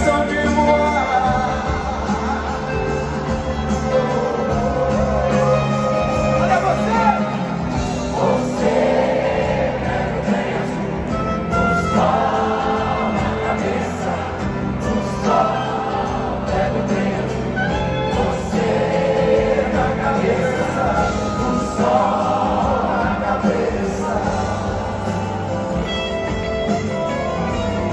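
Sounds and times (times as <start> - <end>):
crowd singing along: 0.0 - 27.9
live band playing slow song: 0.0 - 27.9.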